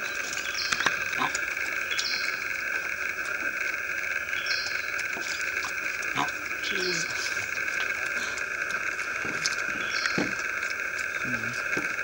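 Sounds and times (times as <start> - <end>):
insect chorus droning: 0.0 - 12.0.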